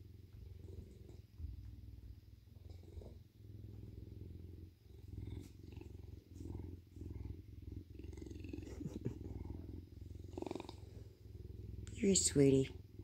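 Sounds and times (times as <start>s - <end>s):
bobcat purring: 0.0s - 13.0s.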